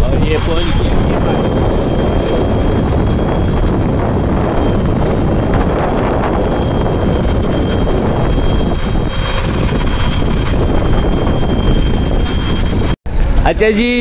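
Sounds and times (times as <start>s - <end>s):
steady high-pitched whine: 0.0s - 14.0s
wind buffeting microphone: 0.0s - 14.0s.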